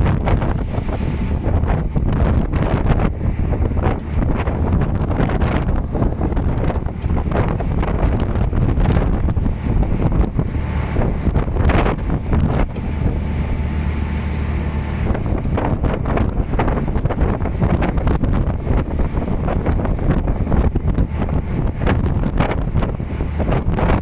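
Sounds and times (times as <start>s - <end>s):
low engine hum: 0.0s - 24.0s
sea wash: 0.0s - 24.0s
wind buffeting microphone: 0.0s - 24.0s.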